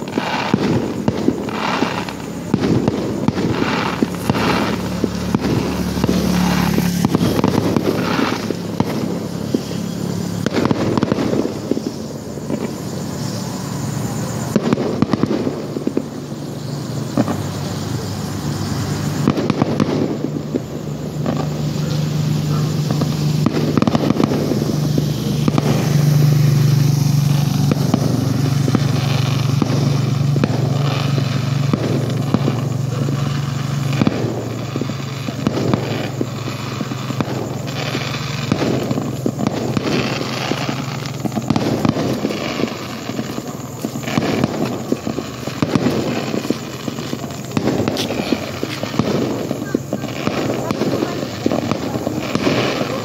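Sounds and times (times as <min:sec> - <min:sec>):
fireworks crackling and popping: 0:00.0 - 0:53.0.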